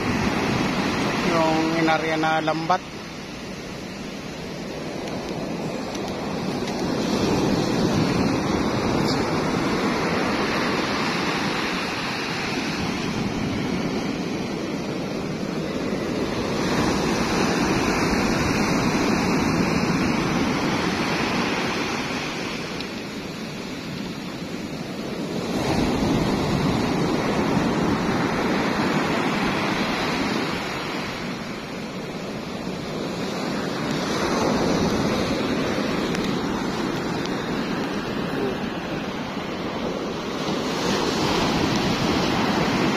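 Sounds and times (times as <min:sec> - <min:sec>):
sea waves: 0:00.0 - 0:42.9
wind on microphone: 0:00.0 - 0:42.9.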